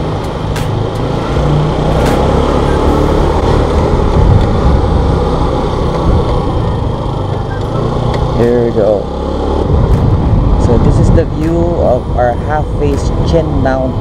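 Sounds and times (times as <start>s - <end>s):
scooter engine running: 0.0s - 14.0s
wind and road noise: 0.0s - 14.0s.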